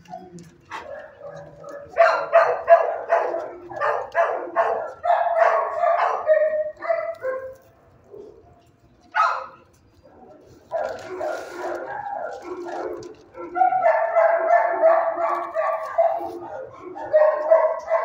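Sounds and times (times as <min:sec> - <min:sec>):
dog barking: 0:00.1 - 0:08.4, 0:09.1 - 0:18.0.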